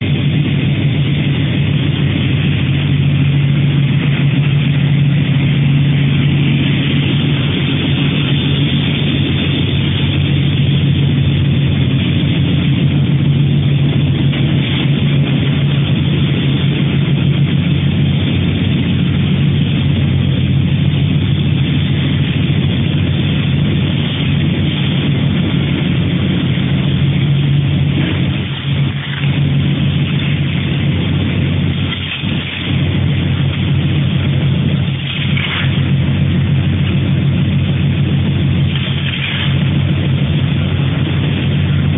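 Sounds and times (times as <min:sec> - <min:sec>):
industrial machinery hum: 0:00.0 - 0:41.9.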